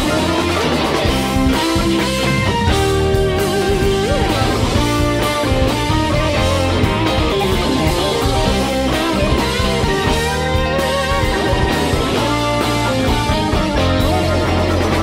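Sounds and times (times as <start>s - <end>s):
electric guitar lead bending notes: 0.0s - 15.0s
rock band playing: 0.0s - 15.0s.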